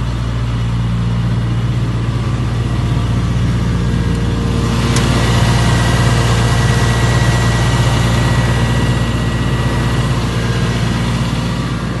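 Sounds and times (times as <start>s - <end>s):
excavator diesel engine humming: 0.0s - 12.0s.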